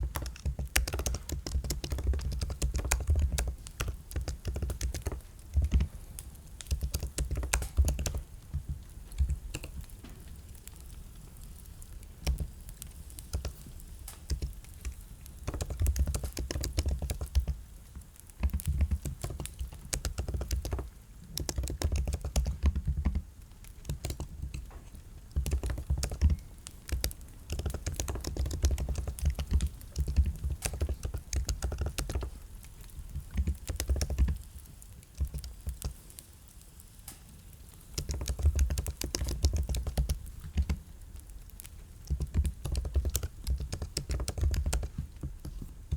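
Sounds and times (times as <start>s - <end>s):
typing on computer keyboard: 0.0s - 11.0s, 11.6s - 17.7s, 18.4s - 34.6s, 35.2s - 36.1s, 37.9s - 40.8s, 41.6s - 45.9s.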